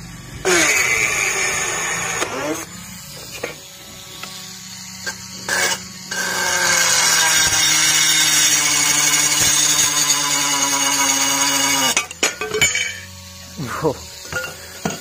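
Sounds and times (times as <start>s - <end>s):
drill whining into wood: 0.4s - 15.0s.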